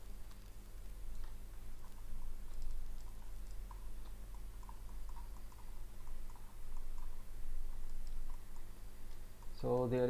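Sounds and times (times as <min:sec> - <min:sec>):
low electrical hum: 0:00.0 - 0:10.0
mouse and keyboard clicks: 0:00.2 - 0:07.2, 0:07.8 - 0:09.9.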